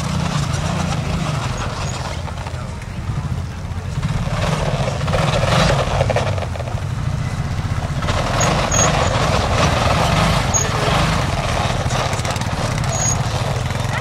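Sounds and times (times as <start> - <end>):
tracked vehicle engine droning: 0.0 - 14.0.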